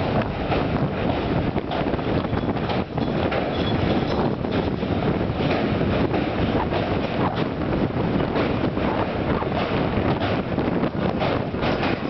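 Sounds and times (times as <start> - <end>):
train rumbling over bridge: 0.0 - 12.0
wheels clattering on rails: 0.0 - 12.0
wind buffeting microphone: 0.0 - 12.0.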